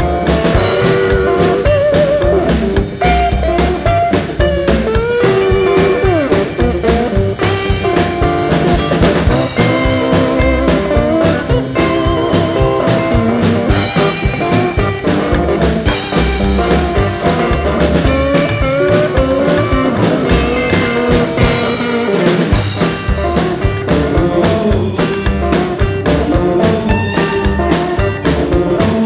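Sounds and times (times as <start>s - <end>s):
drum kit beat: 0.0s - 29.0s
electric guitar: 0.0s - 29.0s.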